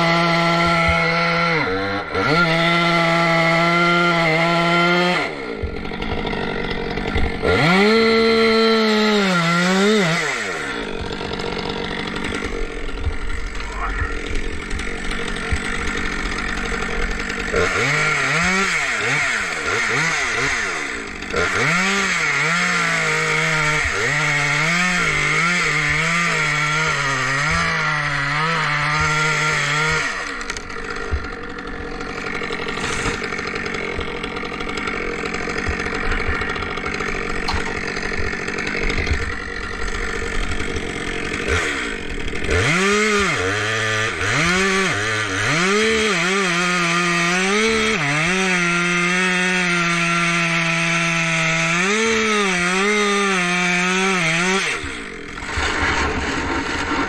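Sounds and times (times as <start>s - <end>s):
chainsaw running and cutting: 0.0s - 57.0s.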